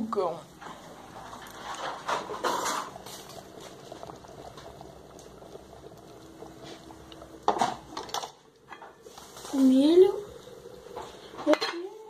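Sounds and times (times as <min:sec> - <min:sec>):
liquid bubbling at a boil: 0:00.0 - 0:12.0.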